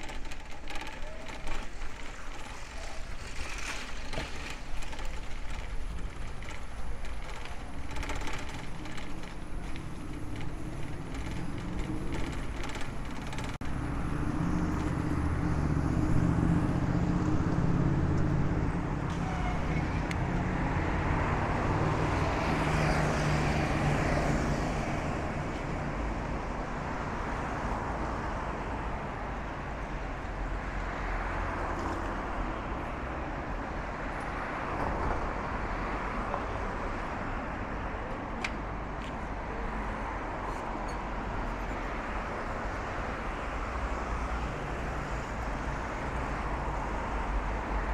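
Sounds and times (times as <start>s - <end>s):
street noise: 0.0s - 47.9s.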